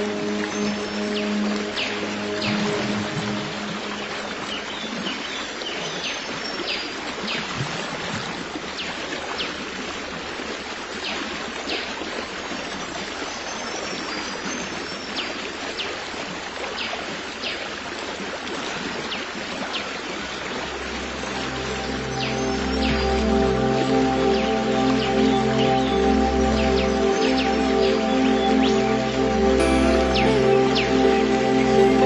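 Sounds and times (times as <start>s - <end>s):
flowing stream: 0.0s - 32.0s.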